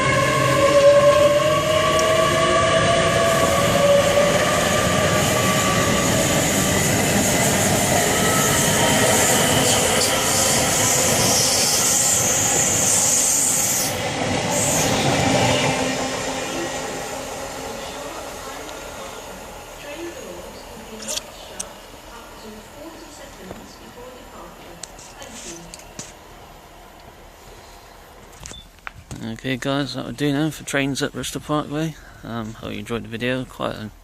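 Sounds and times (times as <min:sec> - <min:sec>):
train drive whine: 0:00.0 - 0:28.9.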